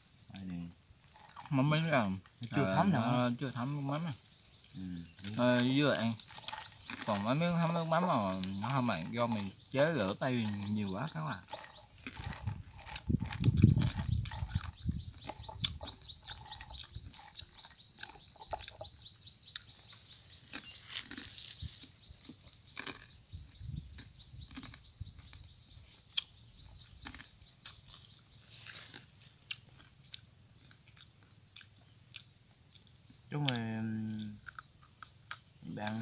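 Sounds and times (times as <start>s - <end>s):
people chewing crunchy food: 0.0s - 36.0s.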